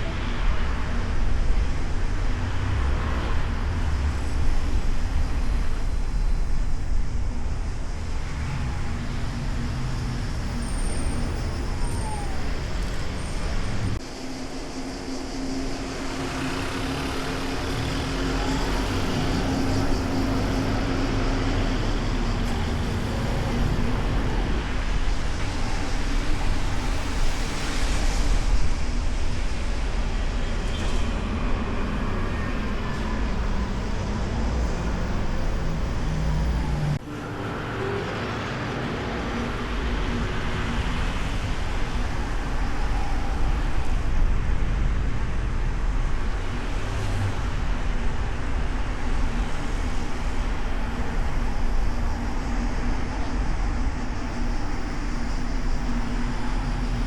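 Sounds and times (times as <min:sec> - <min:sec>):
passing vehicles: 0:00.0 - 0:57.0
road and engine rumble: 0:00.0 - 0:57.0
steady engine hum: 0:00.0 - 0:57.0.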